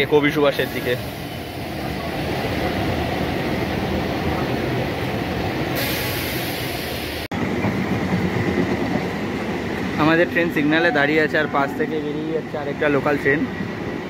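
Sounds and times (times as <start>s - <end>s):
train rolling past: 0.0s - 14.0s
train wheels rumbling on track: 0.0s - 14.0s.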